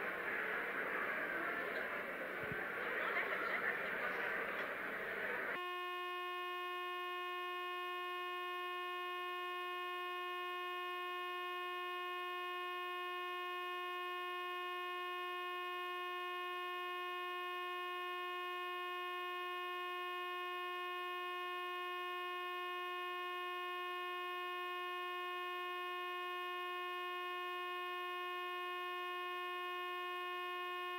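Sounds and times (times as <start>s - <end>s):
steady electronic tone: 5.5s - 30.9s.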